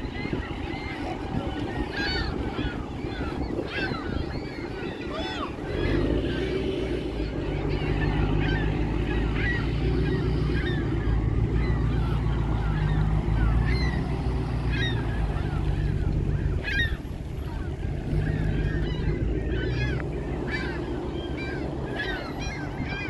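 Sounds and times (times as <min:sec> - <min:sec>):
gulls calling: 0:00.0 - 0:23.0.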